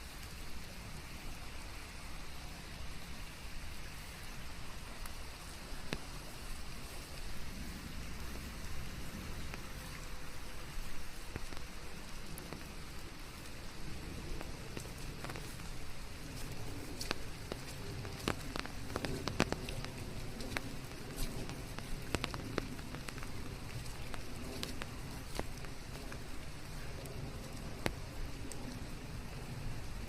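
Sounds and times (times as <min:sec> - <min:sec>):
rain falling in forest: 0:00.0 - 0:30.0
raindrops ticking: 0:00.0 - 0:30.0
white noise: 0:00.0 - 0:30.0.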